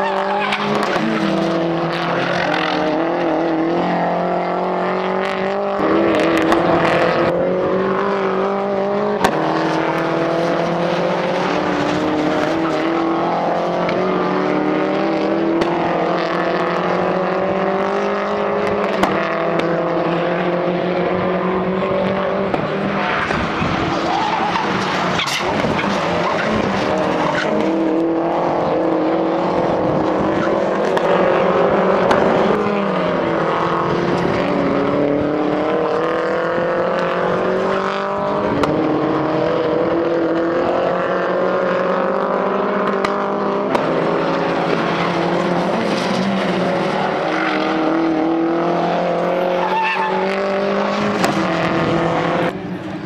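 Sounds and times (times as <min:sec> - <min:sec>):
race car engines passing: 0:00.0 - 0:53.0.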